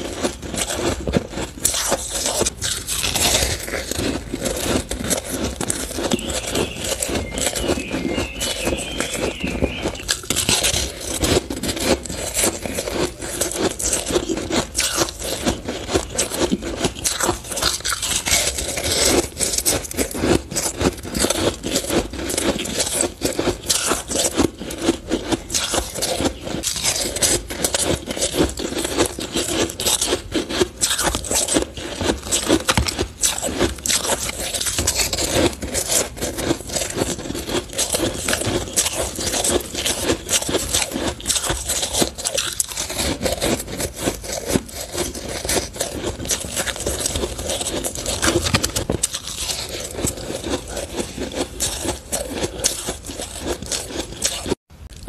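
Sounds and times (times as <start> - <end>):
crunching ice being chewed: 0.0 - 55.0.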